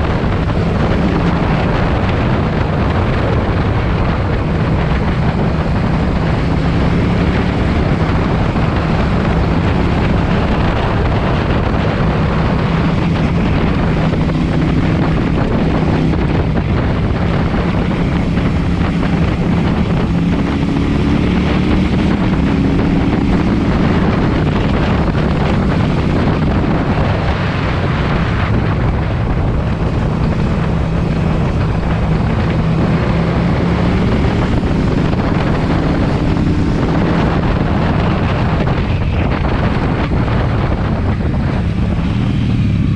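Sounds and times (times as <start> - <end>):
motorcycle engine revving: 0.0 - 42.9
wind buffeting microphone: 0.0 - 42.9.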